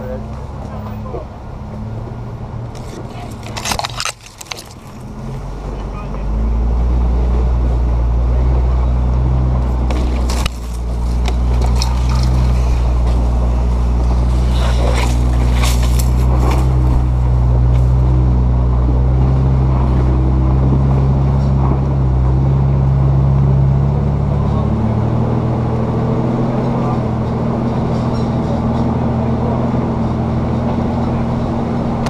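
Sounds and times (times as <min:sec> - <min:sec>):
gravel crunching under tyres: 0:00.0 - 0:06.3, 0:08.4 - 0:32.0
truck engine running at low revs: 0:00.0 - 0:32.0.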